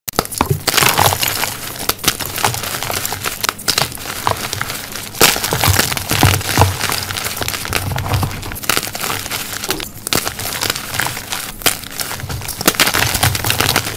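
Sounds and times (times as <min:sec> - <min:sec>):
chalk crunching and crackling: 0:00.1 - 0:13.9.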